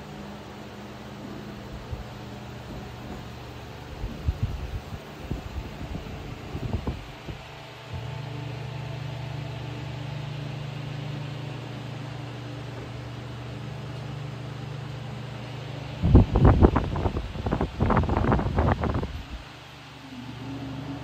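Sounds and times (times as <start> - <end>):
ventilation fan hum: 0.0 - 21.0.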